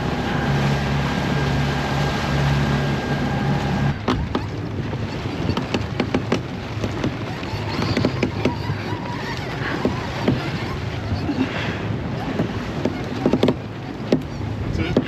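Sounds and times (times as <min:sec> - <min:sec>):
water rushing past boat: 0:00.0 - 0:15.0
wind: 0:00.0 - 0:15.0.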